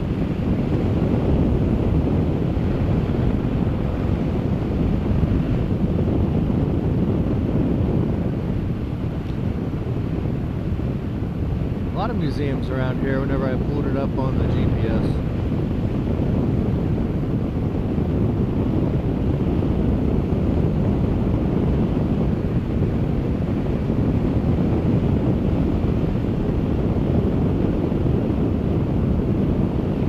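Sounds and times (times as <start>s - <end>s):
motorcycle road noise: 0.0s - 30.0s
wind rush on microphone: 0.0s - 30.0s.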